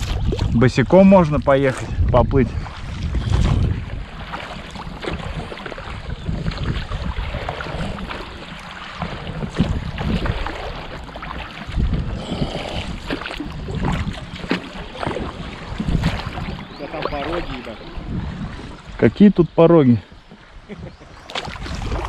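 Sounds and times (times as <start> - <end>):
knocks and splashes: 0.0 - 19.0, 21.2 - 22.0
water lapping around a boat: 0.0 - 22.0
wind rumbling on microphone: 0.0 - 22.0.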